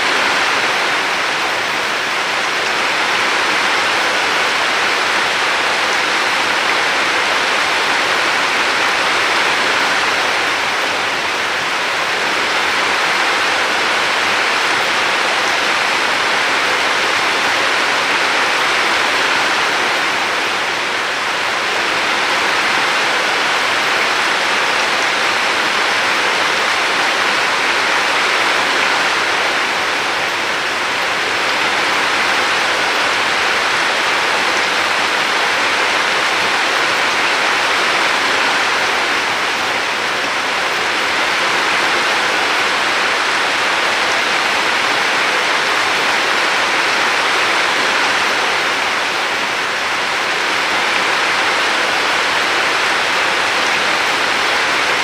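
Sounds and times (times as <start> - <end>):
river water rushing and splashing: 0.0 - 55.0.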